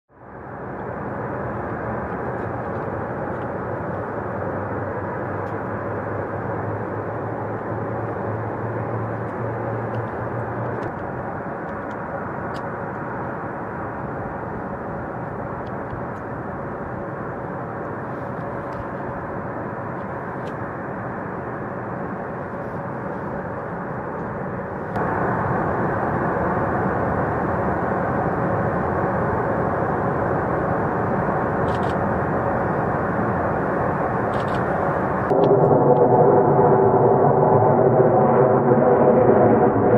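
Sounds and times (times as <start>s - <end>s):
distant jet engines running: 0.1s - 39.9s.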